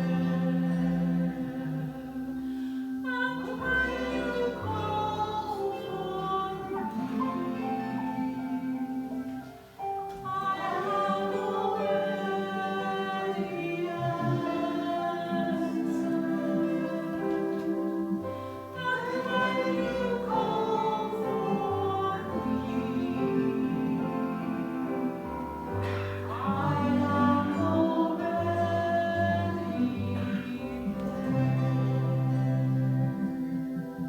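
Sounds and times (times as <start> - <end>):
sustained instrumental accompaniment: 0.0 - 34.0
voices singing a hymn: 0.0 - 34.0.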